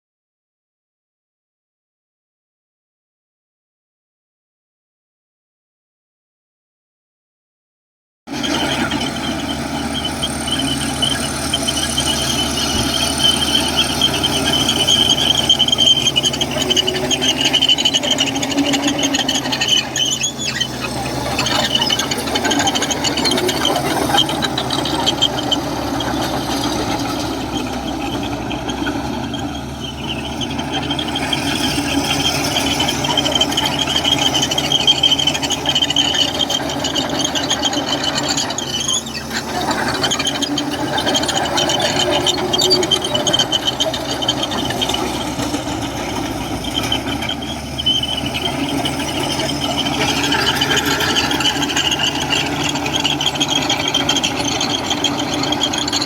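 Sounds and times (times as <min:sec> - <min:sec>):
bulldozer diesel engine running: 0:08.3 - 0:56.0
steel tracks squealing: 0:08.3 - 0:56.0.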